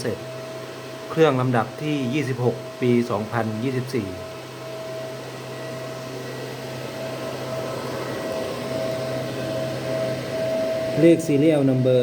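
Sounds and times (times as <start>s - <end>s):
cooling fans whirring: 0.0s - 12.0s
electrical hum: 0.0s - 12.0s
thin steady tone: 0.0s - 12.0s.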